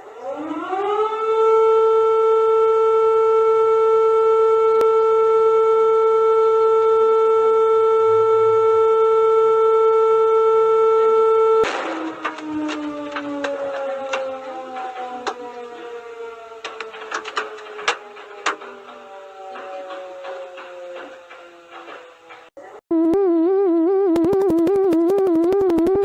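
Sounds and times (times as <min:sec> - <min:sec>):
emergency alert alarm tone: 0:00.0 - 0:26.0.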